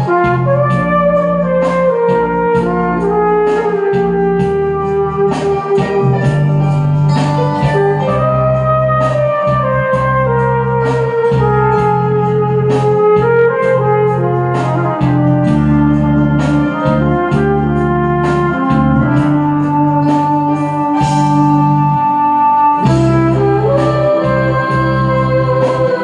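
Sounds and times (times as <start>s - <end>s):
backing track with bass and drums: 0.0s - 26.0s
flugelhorn ballad melody: 0.0s - 26.0s.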